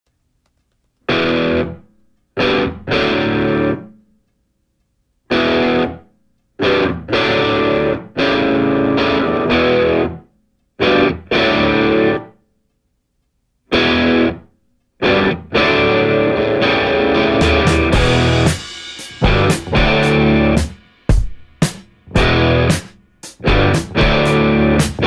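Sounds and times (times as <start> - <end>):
distorted electric guitar chords: 1.1 - 4.0, 5.3 - 6.0, 6.6 - 12.4, 13.7 - 25.0.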